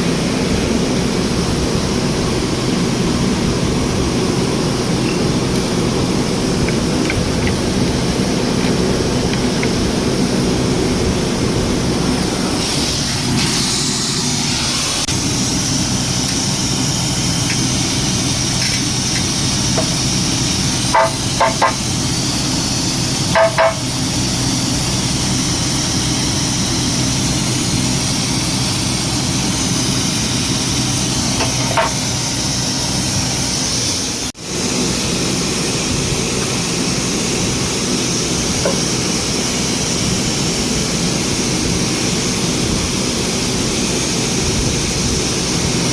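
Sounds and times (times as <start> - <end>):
car engine running: 0.0 - 12.6, 14.8 - 45.9.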